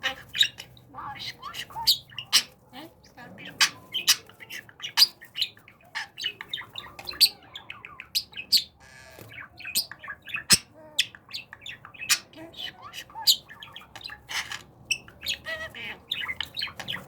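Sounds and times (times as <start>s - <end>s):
budgerigar chirping: 0.0s - 17.0s.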